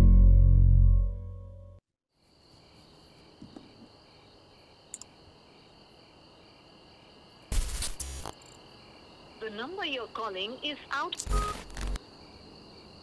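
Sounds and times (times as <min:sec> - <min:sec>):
faint cricket chirping: 0:02.1 - 0:13.0.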